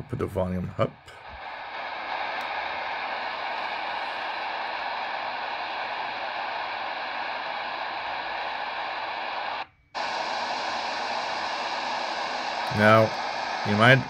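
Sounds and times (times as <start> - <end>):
shortwave radio static hiss: 0.0 - 14.0.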